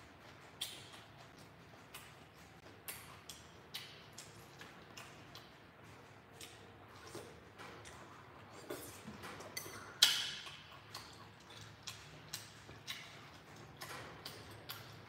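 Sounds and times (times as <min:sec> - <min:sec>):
chewing and mouth clicks: 0:00.0 - 0:15.0.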